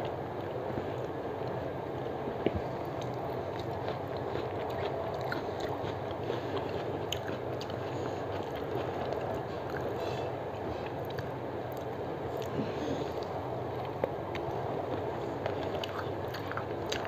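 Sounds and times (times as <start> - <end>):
chewing with mouth clicks: 2.4 - 17.0.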